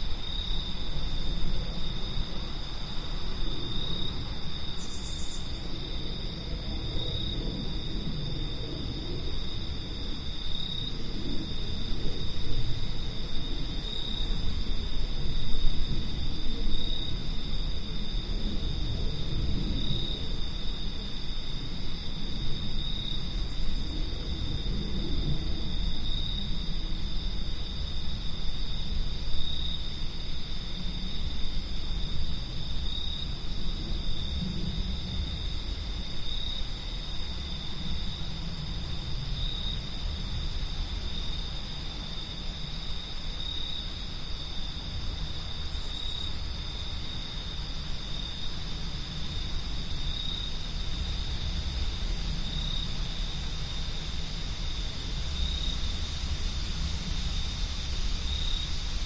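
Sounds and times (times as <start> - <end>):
insects trilling: 0.0 - 59.0
wind rumbling: 0.0 - 59.0.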